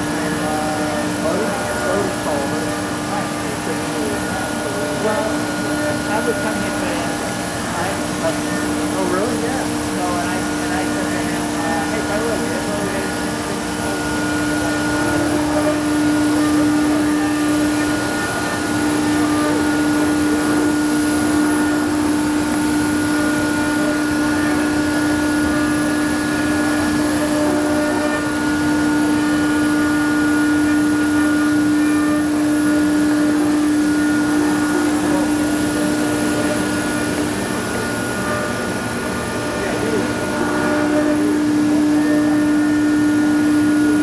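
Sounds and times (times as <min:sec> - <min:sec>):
cnc router machining wood: 0:00.0 - 0:44.0.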